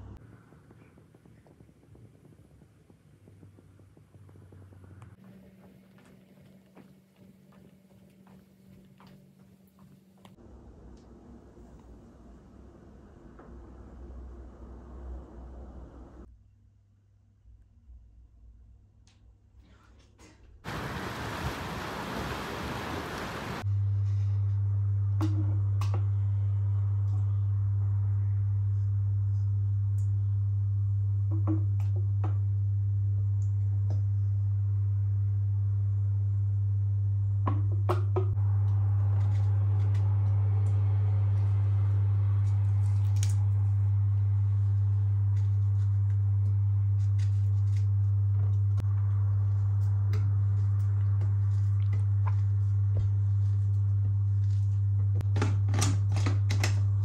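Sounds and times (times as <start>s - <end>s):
steady low hum: 0.0s - 19.5s, 20.6s - 55.4s.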